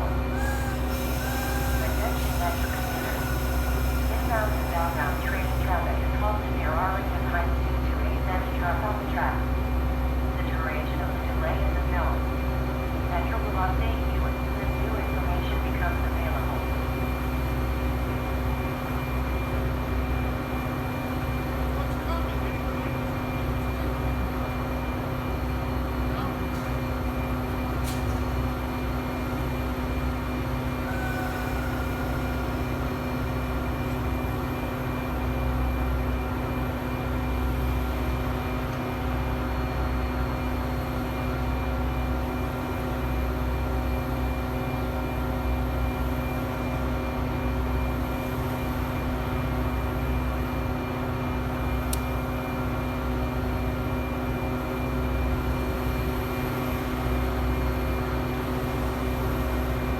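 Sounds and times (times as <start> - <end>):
diesel locomotive engine idling: 0.0 - 59.9.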